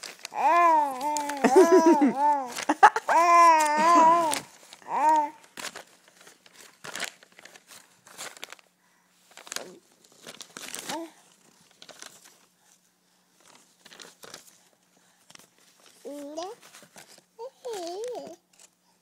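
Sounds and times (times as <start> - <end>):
magazine pages crinkling: 0.0 - 12.6, 13.4 - 18.7.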